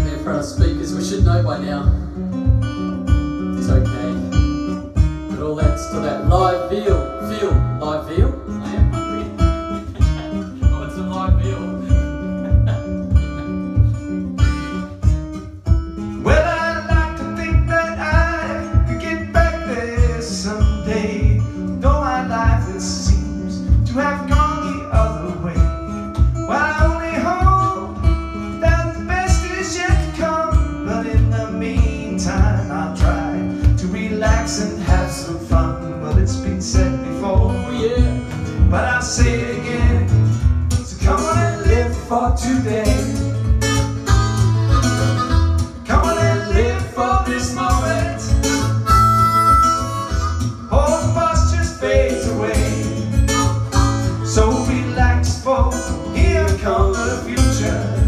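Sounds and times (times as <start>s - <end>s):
man singing: 0.0s - 2.2s, 3.5s - 4.4s, 5.3s - 15.0s, 16.1s - 43.4s, 44.7s - 48.7s, 50.5s - 58.0s
strummed acoustic guitar: 0.0s - 58.0s.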